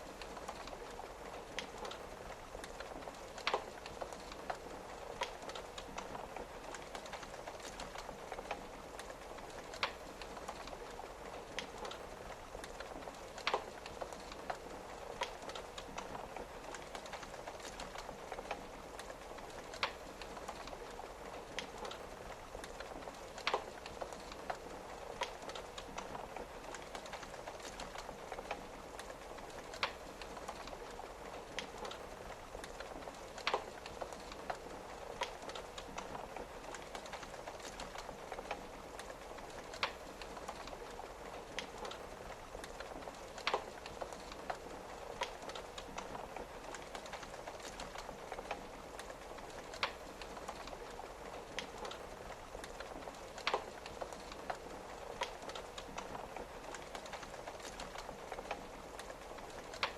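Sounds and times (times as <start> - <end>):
rain tapping on a window: 0.0 - 59.9
wood fire crackling: 0.0 - 59.9.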